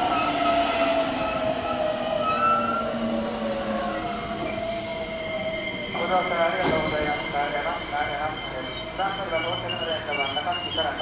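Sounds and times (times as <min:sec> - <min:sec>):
train brakes whining: 0:00.0 - 0:11.0.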